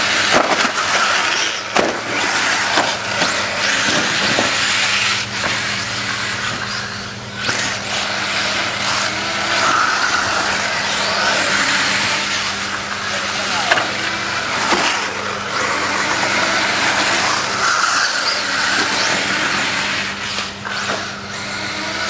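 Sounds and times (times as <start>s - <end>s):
small high-revving engines passing: 0.0s - 22.0s.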